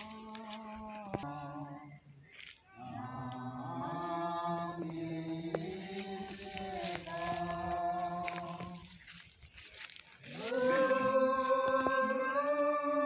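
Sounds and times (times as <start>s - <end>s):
voices singing a hymn: 0.0s - 13.0s.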